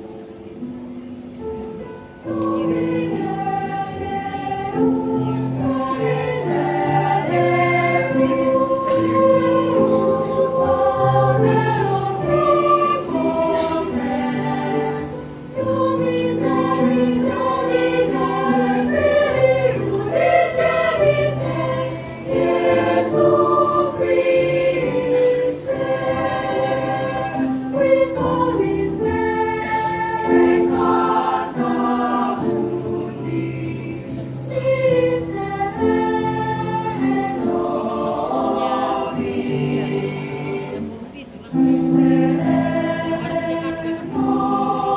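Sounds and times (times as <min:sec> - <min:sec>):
children's choir singing: 0:00.0 - 0:44.9.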